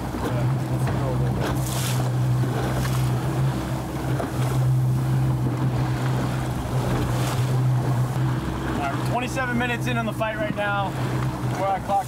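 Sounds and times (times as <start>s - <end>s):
boat motor humming: 0.0s - 12.0s
water rushing past hull: 0.0s - 12.0s.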